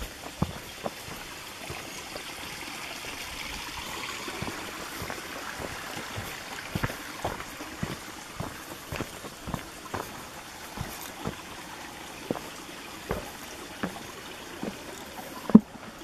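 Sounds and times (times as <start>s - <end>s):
footsteps on leaf-covered dirt: 0.0s - 15.7s
stream trickling over rocks: 0.0s - 16.0s.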